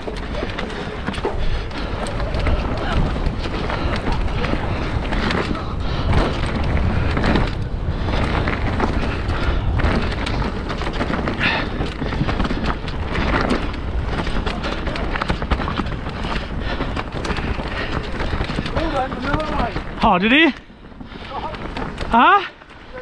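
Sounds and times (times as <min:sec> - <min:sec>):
bike rattling and knocking: 0:00.0 - 0:23.0
tyres rushing on dirt: 0:00.0 - 0:23.0
wind buffeting microphone: 0:00.0 - 0:23.0.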